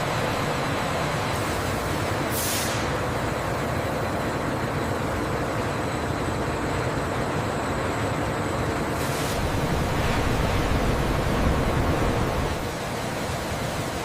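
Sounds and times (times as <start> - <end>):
machinery rumble and hiss: 0.0 - 14.0.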